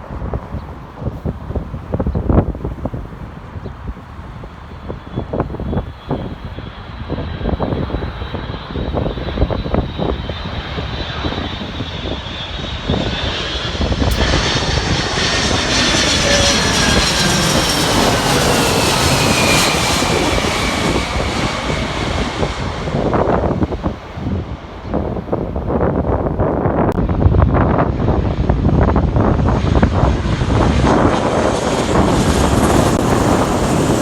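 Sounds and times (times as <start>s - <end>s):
jet airliner passing: 0.0s - 34.0s
wind buffeting microphone: 0.0s - 34.0s.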